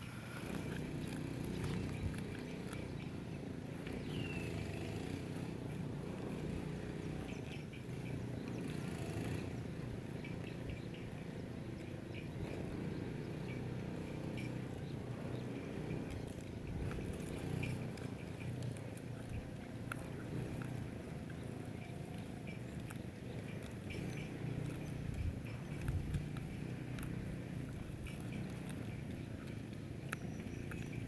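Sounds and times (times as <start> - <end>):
cow tearing and chewing grass: 0.0 - 31.0
steady low rumble: 0.0 - 31.0.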